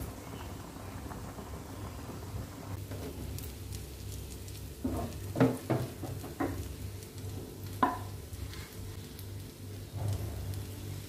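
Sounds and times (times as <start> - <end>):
meat sizzling on a hot plate: 0.0 - 11.0.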